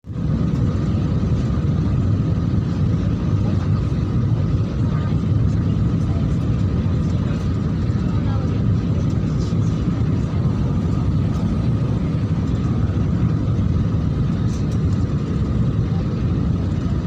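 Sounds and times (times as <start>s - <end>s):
jet airliner cabin rumble: 0.0s - 17.0s
faint steady whine: 0.1s - 17.0s.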